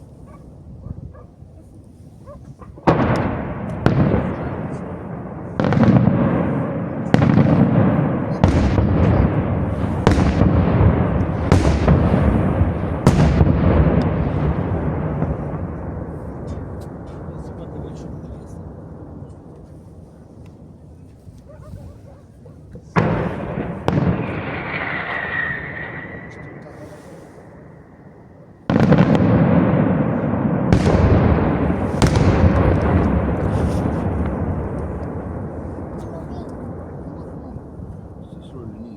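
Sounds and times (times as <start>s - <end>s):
firework bangs with rumble: 2.8s - 19.7s, 22.9s - 28.0s, 28.6s - 38.4s.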